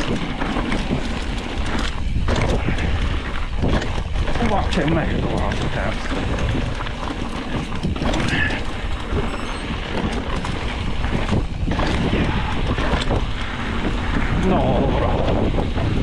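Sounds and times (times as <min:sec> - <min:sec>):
bike clattering and rattling: 0:00.0 - 0:16.0
bike tyre noise: 0:00.0 - 0:16.0
wind on microphone: 0:00.0 - 0:16.0.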